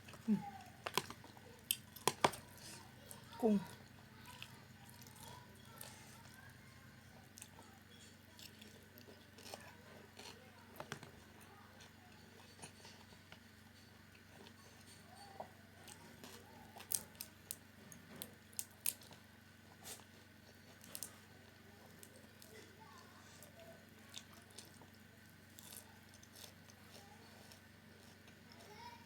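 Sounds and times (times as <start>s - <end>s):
person chewing and crunching food: 0.0s - 29.0s.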